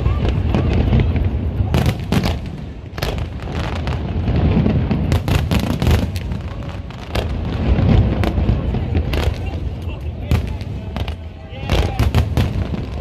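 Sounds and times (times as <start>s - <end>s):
fireworks booming: 0.0s - 13.0s
fireworks cracking and popping: 0.0s - 13.0s.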